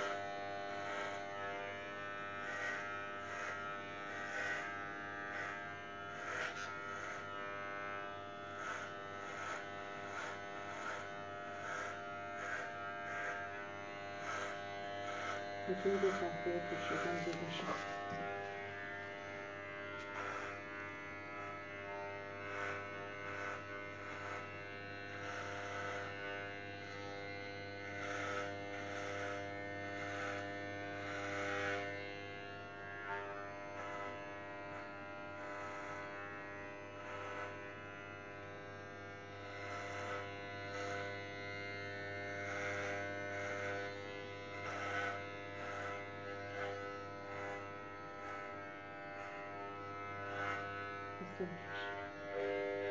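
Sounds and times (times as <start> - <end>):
electric hair clippers buzzing: 0.0 - 52.9.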